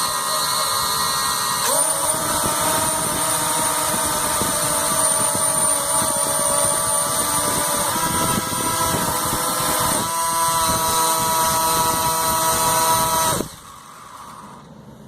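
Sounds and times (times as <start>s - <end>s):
small electric motor whining: 0.0s - 14.8s.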